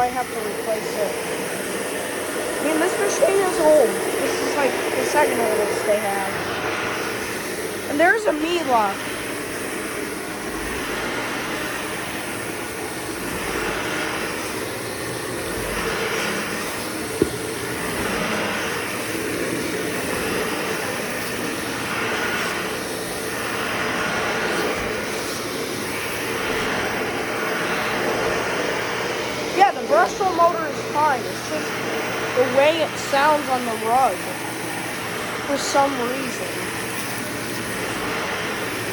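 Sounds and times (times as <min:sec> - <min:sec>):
vacuum cleaner on a rug: 0:00.0 - 0:38.9.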